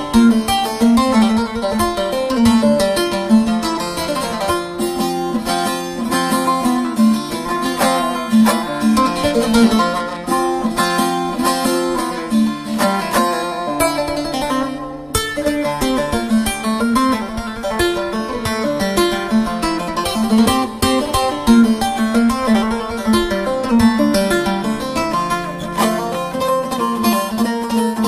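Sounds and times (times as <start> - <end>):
plucked string instrumental music: 0.0 - 28.0.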